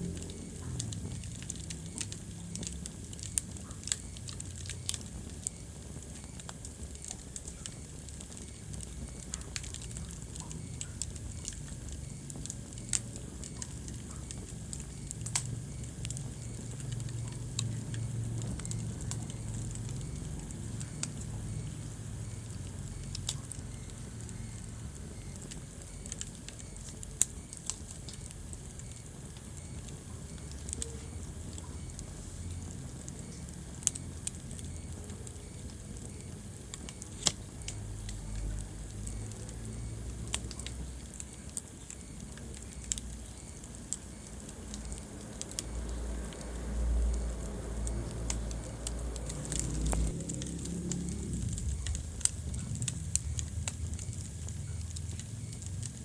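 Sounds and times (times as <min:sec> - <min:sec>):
fire rumbling: 0:00.0 - 0:56.0
logs crackling and popping: 0:00.0 - 0:56.0.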